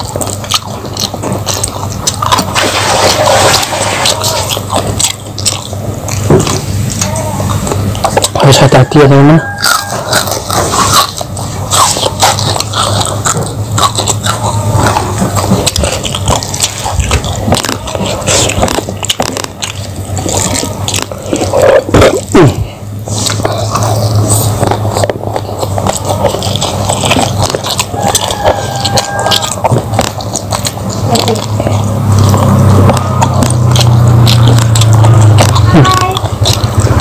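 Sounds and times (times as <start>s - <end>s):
chewing crunchy food: 0.0s - 37.0s
mouth clicks: 0.0s - 37.0s.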